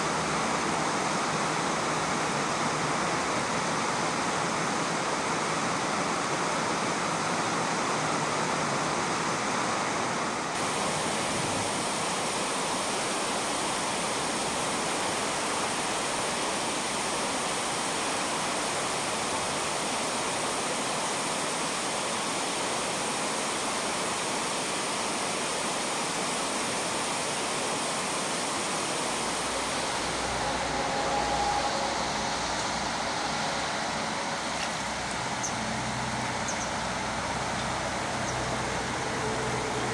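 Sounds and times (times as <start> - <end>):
river flowing over gravel: 0.0 - 39.9.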